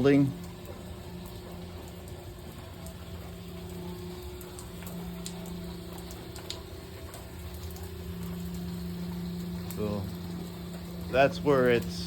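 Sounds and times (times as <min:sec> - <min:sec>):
light ticks from plumbing: 0:00.0 - 0:12.0
steady low hum: 0:00.0 - 0:12.0.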